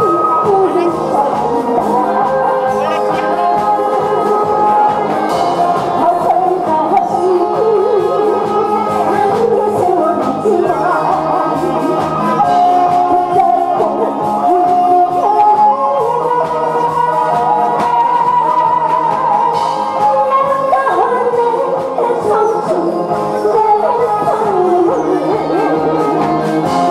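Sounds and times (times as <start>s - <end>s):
amplified instrumental music with beat: 0.0s - 26.9s
woman singing with vibrato: 0.0s - 26.9s.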